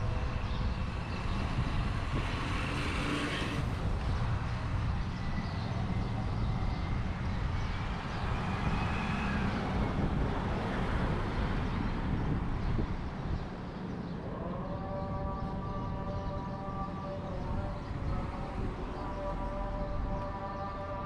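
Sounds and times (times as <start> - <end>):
street traffic rumble: 0.0 - 21.0
wind on microphone: 0.0 - 21.0.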